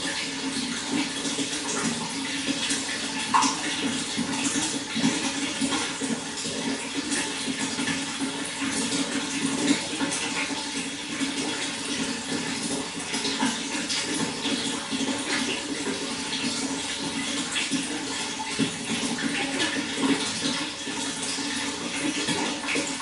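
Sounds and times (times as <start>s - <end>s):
running water splashing and gurgling: 0.0s - 23.0s.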